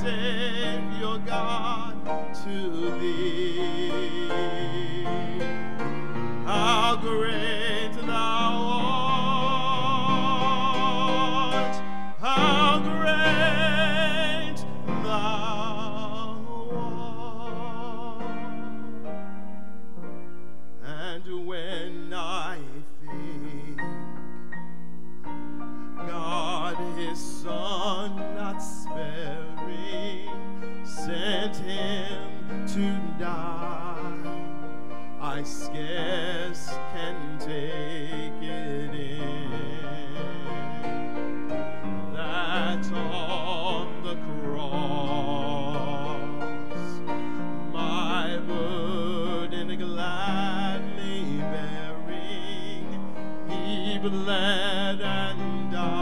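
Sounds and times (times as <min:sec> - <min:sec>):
man singing operatically: 0:00.0 - 0:18.9, 0:20.8 - 0:24.2, 0:26.0 - 0:56.0.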